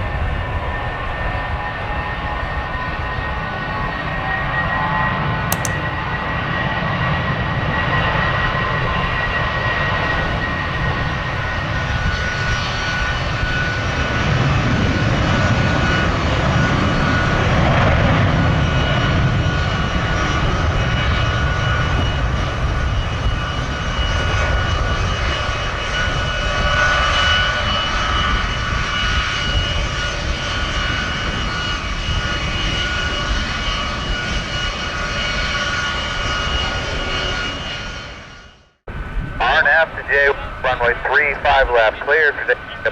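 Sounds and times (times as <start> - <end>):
jet engines whining and rumbling: 7.9 - 42.9.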